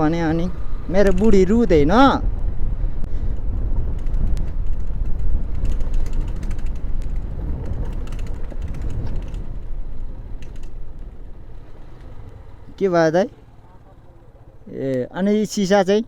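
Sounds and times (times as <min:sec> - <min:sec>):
motorcycle low rumble: 0:00.0 - 0:16.0.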